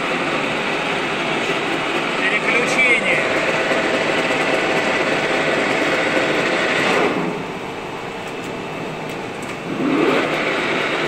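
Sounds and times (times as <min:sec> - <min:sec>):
lathe whirring: 0:00.0 - 0:09.0.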